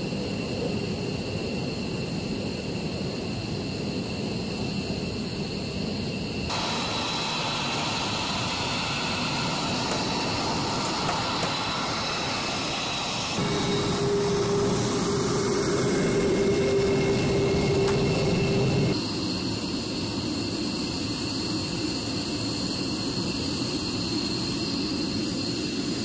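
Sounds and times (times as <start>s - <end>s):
jet engines with turbine whine: 0.0s - 26.0s.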